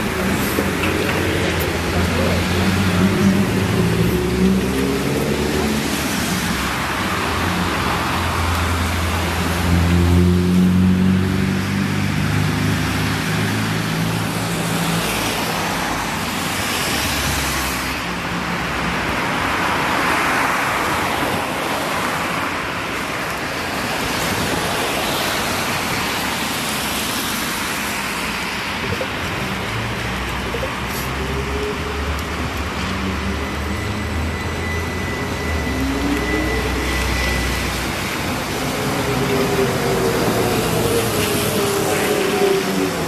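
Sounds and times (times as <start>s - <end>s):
tyres hissing on wet road: 0.0s - 43.0s.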